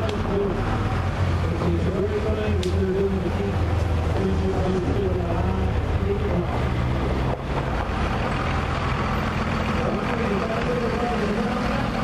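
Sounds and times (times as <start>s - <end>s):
race car engines humming: 0.0s - 12.0s.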